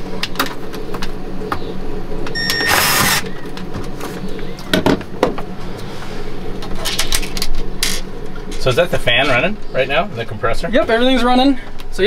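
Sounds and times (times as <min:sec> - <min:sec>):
refrigerator compressor humming: 0:00.0 - 0:12.0.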